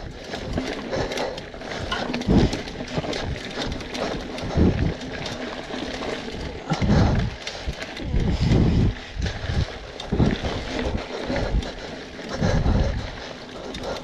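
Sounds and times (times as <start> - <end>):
bike rattling: 0.0 - 14.0
bike tyres clattering over roots: 0.0 - 14.0.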